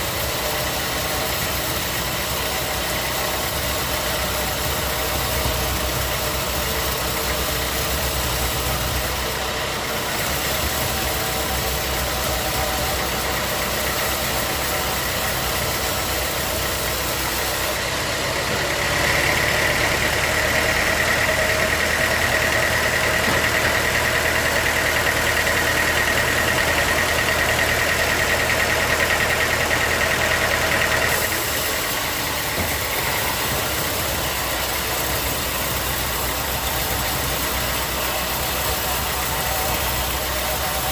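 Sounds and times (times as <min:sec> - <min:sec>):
high machine whine: 0:00.0 - 0:40.9
sawmill machinery running: 0:00.0 - 0:40.9.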